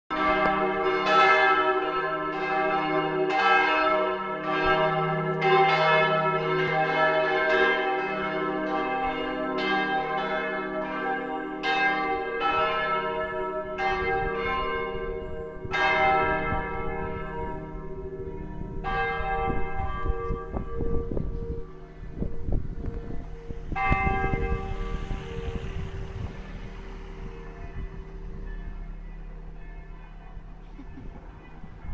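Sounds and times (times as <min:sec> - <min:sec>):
church bell ringing: 0:00.1 - 0:31.9.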